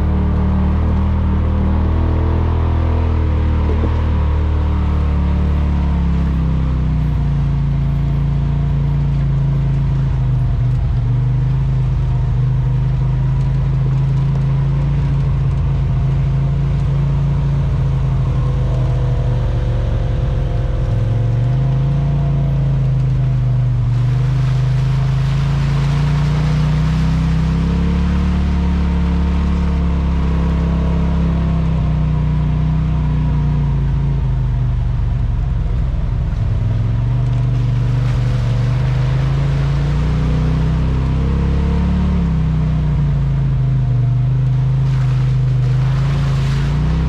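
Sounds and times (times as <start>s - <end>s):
engine droning: 0.0s - 47.0s.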